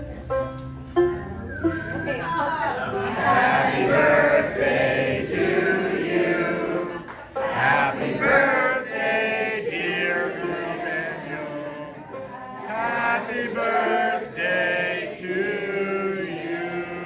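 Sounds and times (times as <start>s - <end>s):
voices singing in chorus: 2.7s - 17.0s.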